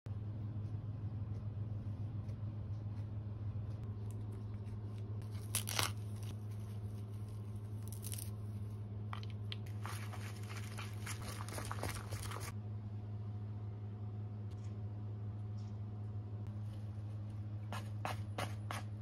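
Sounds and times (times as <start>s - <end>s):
low hum: 0.1s - 18.9s.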